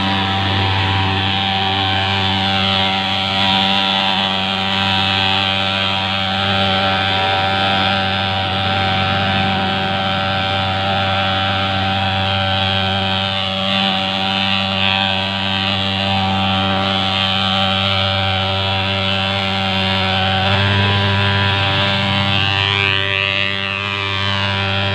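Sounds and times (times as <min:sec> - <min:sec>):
fogging machine buzzing drone: 0:00.0 - 0:24.9.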